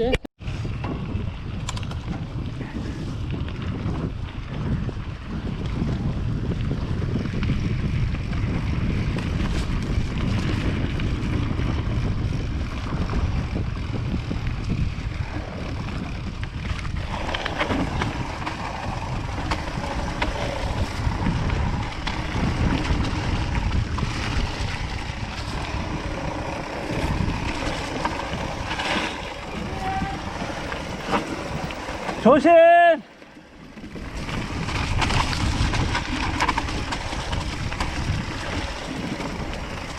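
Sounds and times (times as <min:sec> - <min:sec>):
wind buffeting microphone: 0:00.0 - 0:39.9
bike tyre noise: 0:00.4 - 0:39.9
bike knocks and rattles: 0:03.3 - 0:32.3, 0:33.6 - 0:39.9.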